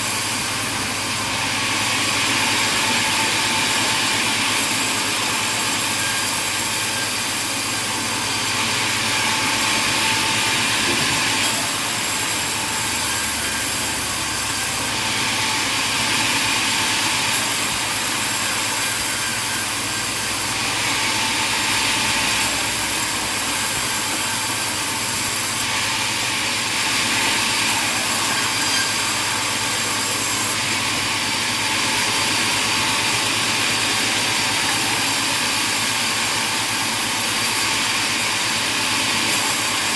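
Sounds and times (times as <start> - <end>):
sawmill machinery sawing wood: 0.0 - 39.9.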